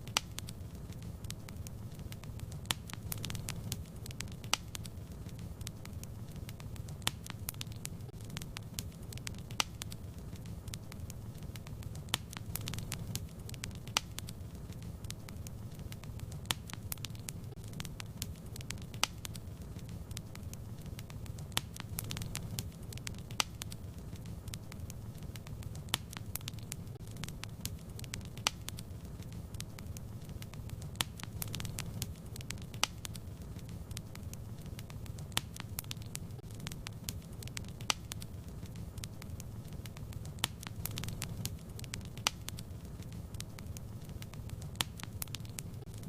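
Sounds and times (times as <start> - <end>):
fire crackling and popping: 0.0 - 46.0
fire rumbling: 0.0 - 46.0.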